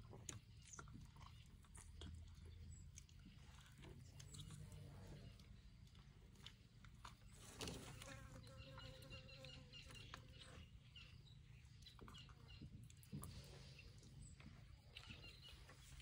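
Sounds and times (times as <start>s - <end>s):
small bird chirping: 0.2s - 16.0s.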